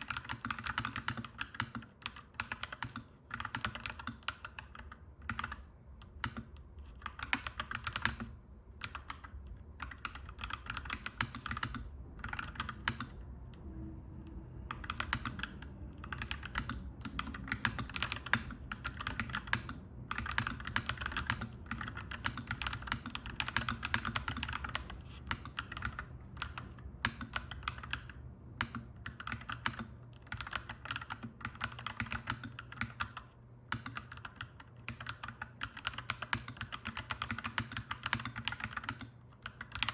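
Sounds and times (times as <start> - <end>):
mechanical keyboard typing: 0.0 - 13.2, 14.7 - 39.9
low background hum: 0.0 - 39.9.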